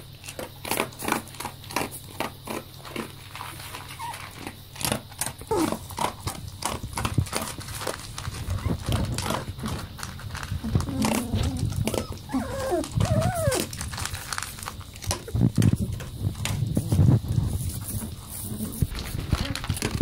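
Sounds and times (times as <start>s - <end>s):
dogs crunching dry kibble: 0.0s - 20.0s.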